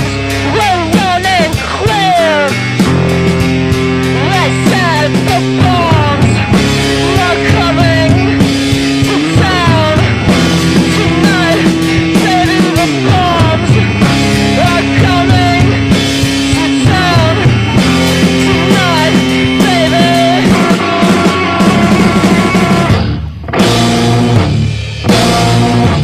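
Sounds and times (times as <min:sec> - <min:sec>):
sustained low chords: 0:00.0 - 0:26.0.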